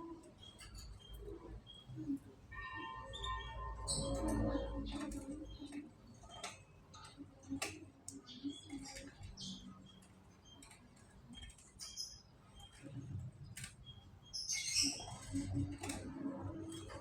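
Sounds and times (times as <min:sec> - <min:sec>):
canaries clicking and ticking: 0:00.0 - 0:17.0.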